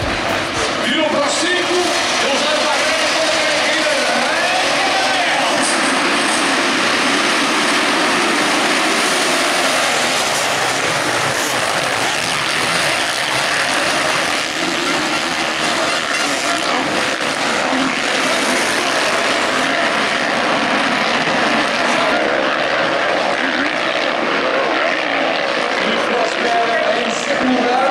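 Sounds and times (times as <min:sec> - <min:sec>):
motocross bike engines racing: 0:00.0 - 0:27.9.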